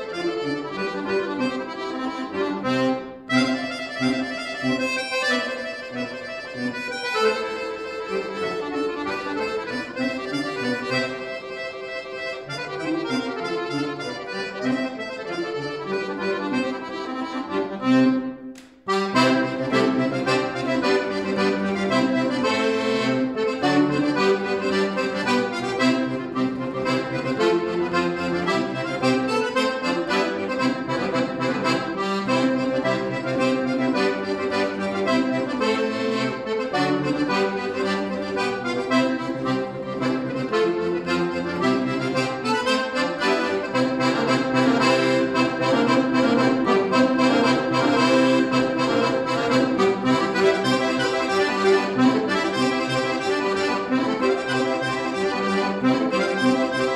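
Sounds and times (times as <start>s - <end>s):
accordion playing quick notes: 0.0s - 56.9s.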